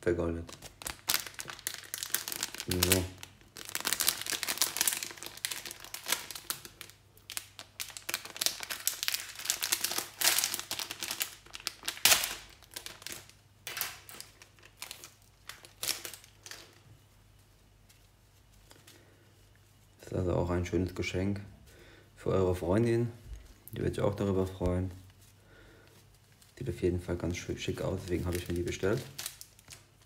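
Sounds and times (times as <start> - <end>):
plastic bag crinkling: 0.4 - 19.6, 23.4 - 30.0.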